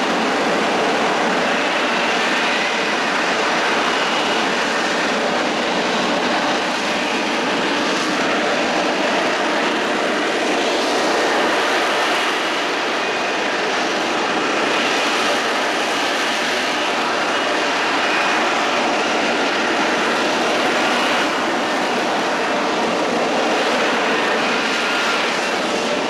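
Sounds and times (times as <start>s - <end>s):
jet engine roar: 0.0s - 26.0s.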